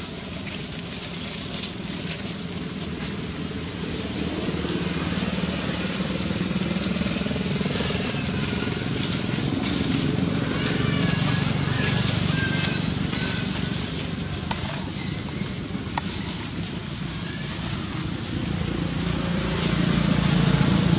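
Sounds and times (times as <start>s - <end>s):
motor engine running: 0.0s - 20.9s.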